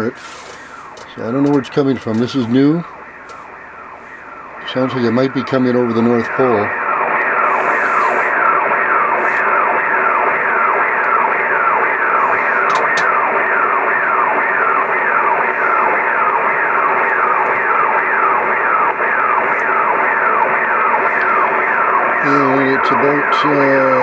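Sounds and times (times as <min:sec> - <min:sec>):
radio band hiss: 0:00.0 - 0:24.0.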